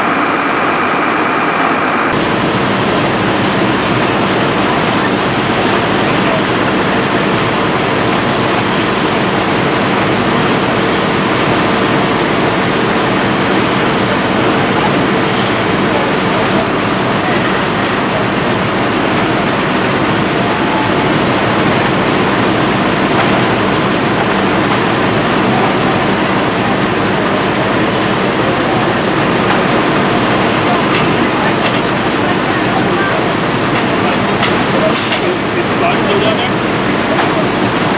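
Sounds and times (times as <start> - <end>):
fire hose water rushing: 0.0 - 37.9.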